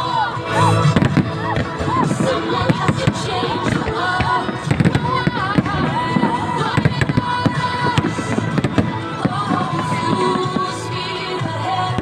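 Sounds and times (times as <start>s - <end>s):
music playing: 0.0s - 12.0s
fireworks bangs and crackles: 0.8s - 12.0s.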